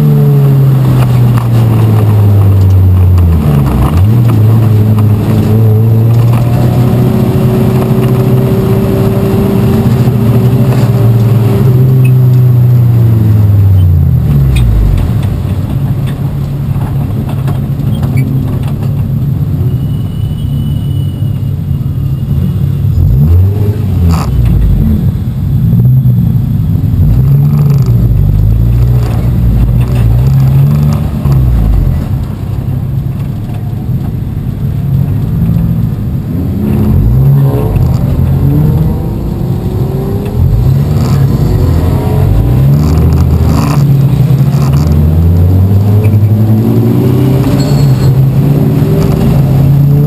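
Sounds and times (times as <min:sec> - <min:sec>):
race car engine revving: 0:00.0 - 0:15.4, 0:22.9 - 0:32.6, 0:34.9 - 0:50.0.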